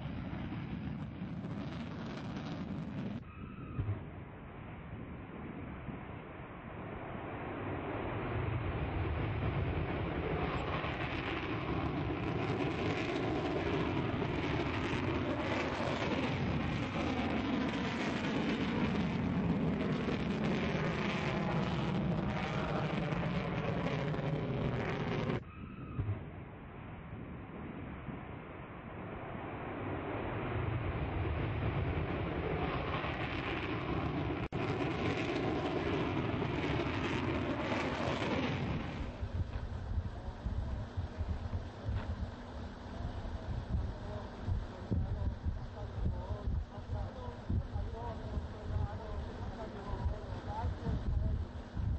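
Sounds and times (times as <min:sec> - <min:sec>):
rocket engine deep rushing roar: 0:06.7 - 0:26.3, 0:27.7 - 0:51.9.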